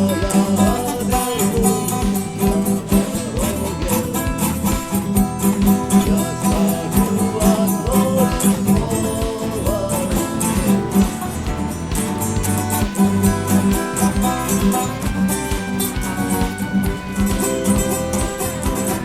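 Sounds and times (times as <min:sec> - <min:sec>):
guitar strumming: 0:00.0 - 0:19.0
person singing: 0:00.0 - 0:19.0.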